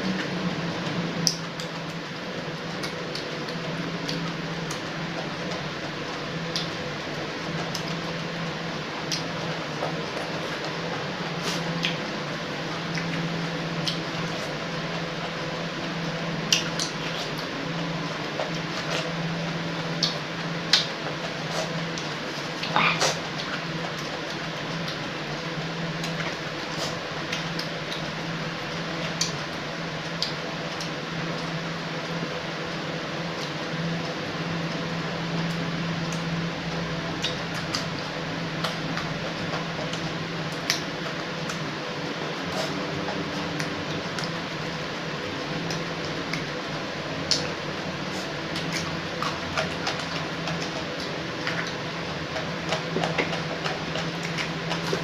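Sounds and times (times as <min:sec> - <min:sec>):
steady low hum: 0:00.0 - 0:55.0
person chewing crunchy vegetables: 0:00.1 - 0:32.2, 0:33.3 - 0:55.0.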